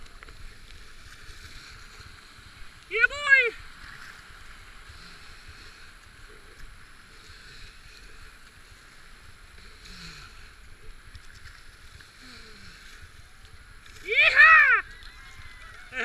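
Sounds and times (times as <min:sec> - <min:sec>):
rushing churning whitewater: 0:01.8 - 0:16.0.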